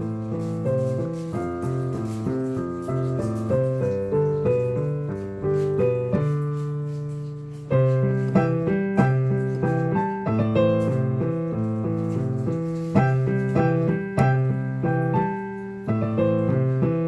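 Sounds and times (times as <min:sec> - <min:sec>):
slow jazz piano: 0:00.0 - 0:17.0.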